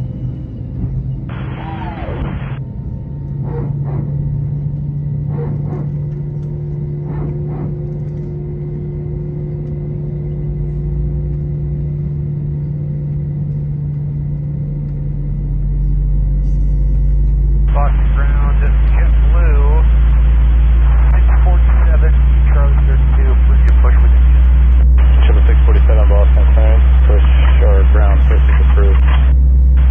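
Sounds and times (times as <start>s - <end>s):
airplane cabin hum: 0.0s - 29.9s
deep rumble: 0.0s - 29.9s.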